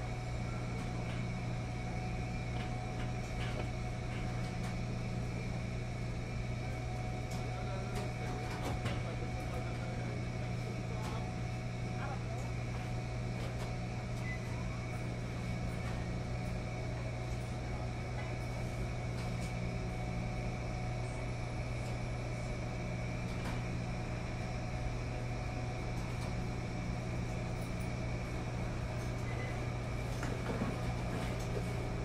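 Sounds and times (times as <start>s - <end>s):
washing machines humming: 0.0s - 32.0s.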